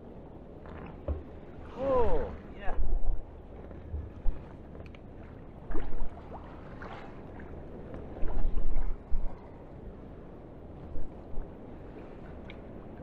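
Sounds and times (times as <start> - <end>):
choppy sea against boat: 0.0 - 13.0.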